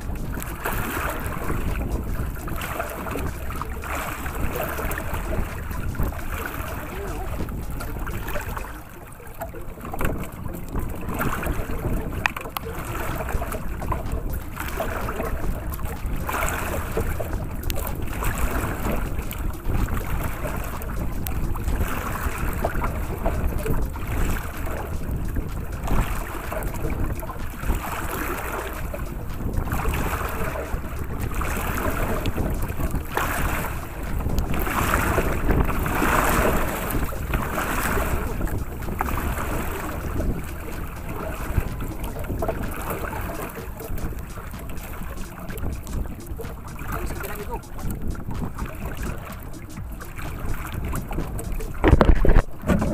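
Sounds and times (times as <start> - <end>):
waves splashing against boat hull: 0.0 - 52.9
wind rumbling on microphone: 0.0 - 52.9.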